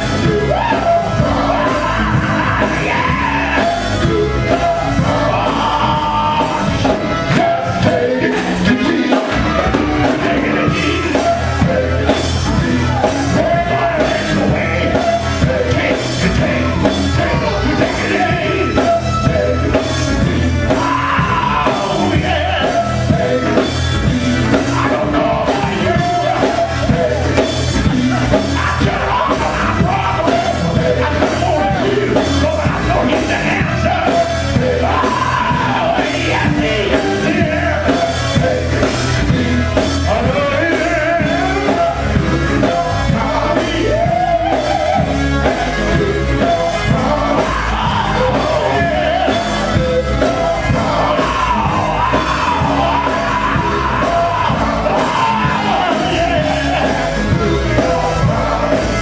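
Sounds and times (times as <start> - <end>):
person singing into microphone: 0.0 - 23.8, 24.5 - 59.0
bass guitar: 0.0 - 59.0
drum kit beat: 0.0 - 59.0
electric guitar: 0.0 - 59.0.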